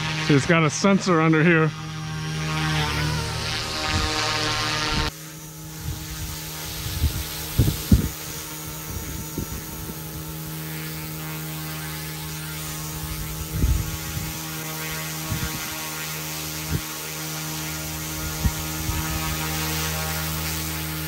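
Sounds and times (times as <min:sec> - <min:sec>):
rc helicopter hovering hum: 0:00.0 - 0:21.0.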